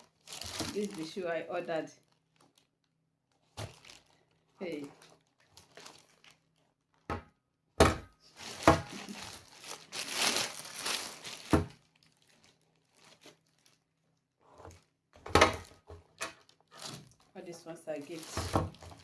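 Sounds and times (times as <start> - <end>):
plastic packaging crinkling: 0.0 - 7.1, 8.3 - 14.9, 15.5 - 19.0.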